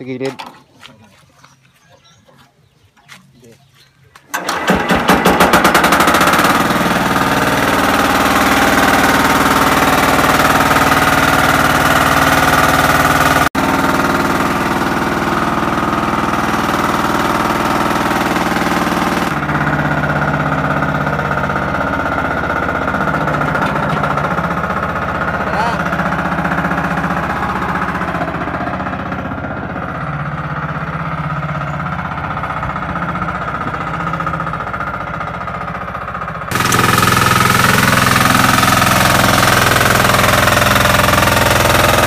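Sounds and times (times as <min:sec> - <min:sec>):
diesel engine running: 0:04.1 - 0:42.0.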